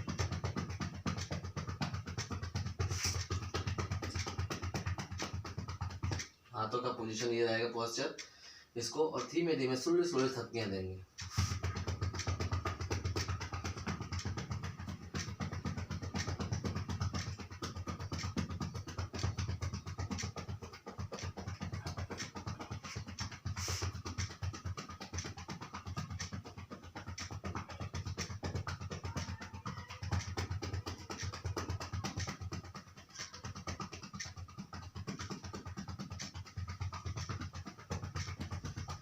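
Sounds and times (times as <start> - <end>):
cupped hands patting chest: 0.0 - 8.4, 9.2 - 39.0.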